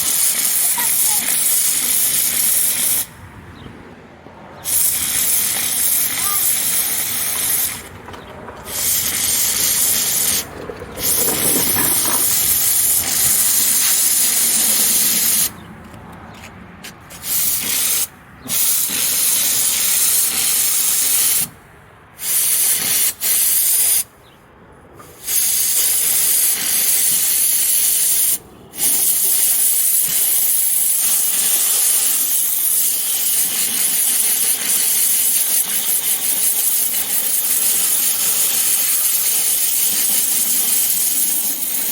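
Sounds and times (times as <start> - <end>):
steamer hissing: 0.0 - 3.1, 4.6 - 8.0, 8.6 - 15.6, 17.1 - 21.5, 22.2 - 24.1, 25.1 - 41.9.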